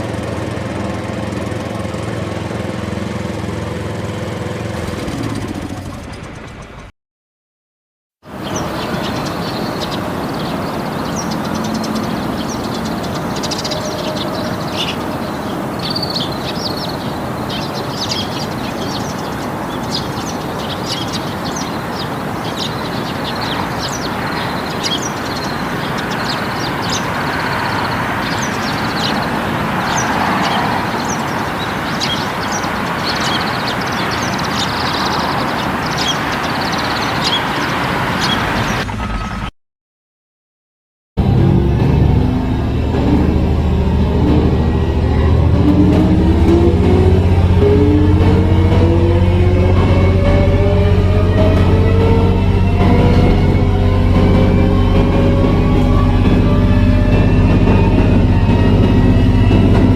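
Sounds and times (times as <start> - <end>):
steady rumbling rushing noise: 8.2 - 39.5, 41.2 - 59.9.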